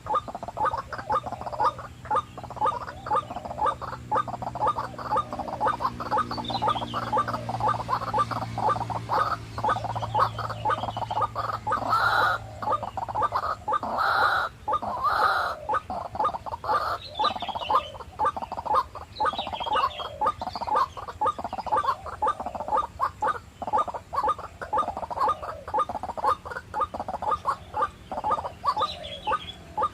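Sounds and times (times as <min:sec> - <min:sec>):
longer louder bird calls: 0:00.0 - 0:29.9
waterhens clucking: 0:00.0 - 0:29.9.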